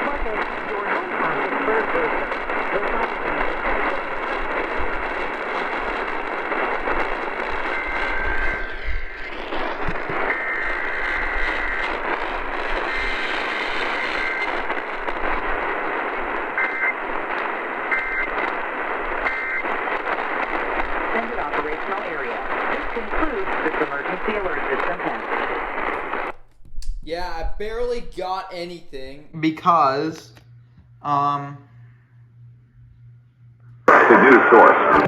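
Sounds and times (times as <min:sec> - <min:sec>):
radio static and hiss: 0:00.0 - 0:26.3, 0:27.1 - 0:32.0, 0:33.8 - 0:35.0.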